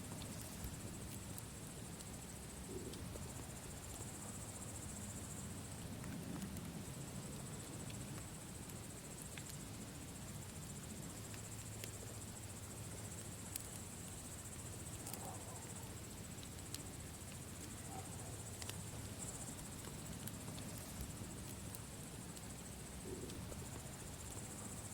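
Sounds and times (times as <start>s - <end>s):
campfire crackling: 0.0s - 24.9s
crickets chirping: 0.0s - 24.9s.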